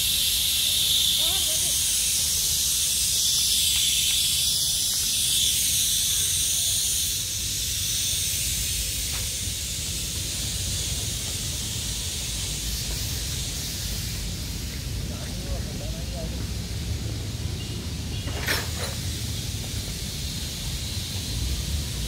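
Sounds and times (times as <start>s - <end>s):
high-pitched hiss: 0.0s - 22.0s.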